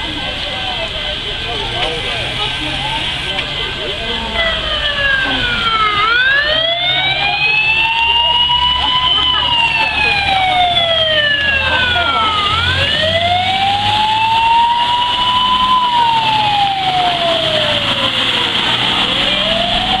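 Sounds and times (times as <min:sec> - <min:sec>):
truck engine rumble: 0:00.0 - 0:20.0
water splashing: 0:00.0 - 0:20.0
fire truck siren wailing: 0:03.6 - 0:20.0.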